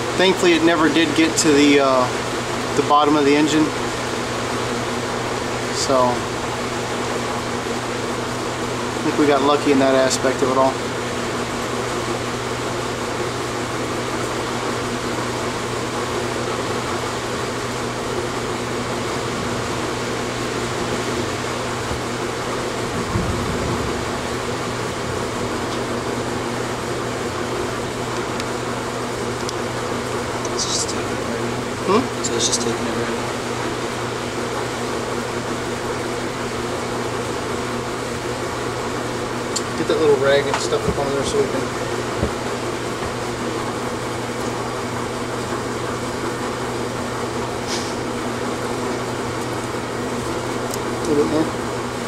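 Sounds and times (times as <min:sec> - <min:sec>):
fan hum and air rush: 0:00.0 - 0:52.0.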